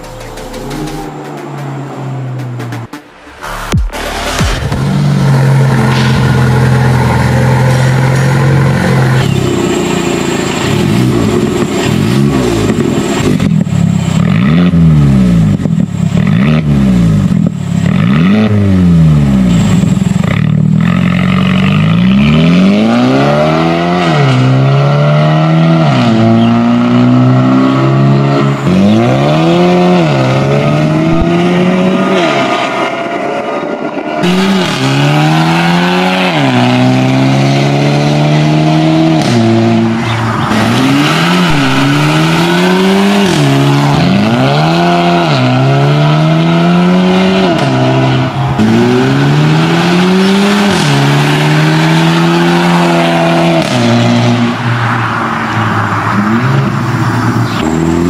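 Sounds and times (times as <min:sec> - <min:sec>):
car engine accelerating through gears: 0:00.0 - 0:58.0.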